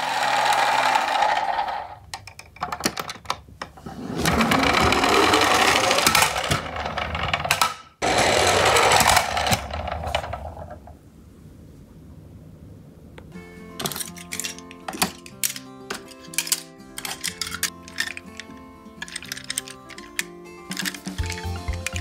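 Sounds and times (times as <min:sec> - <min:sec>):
toy truck wheels rattling on wood: 0:00.0 - 0:10.9, 0:13.8 - 0:22.0
toy handling clicks and knocks: 0:00.1 - 0:10.8, 0:13.8 - 0:22.0.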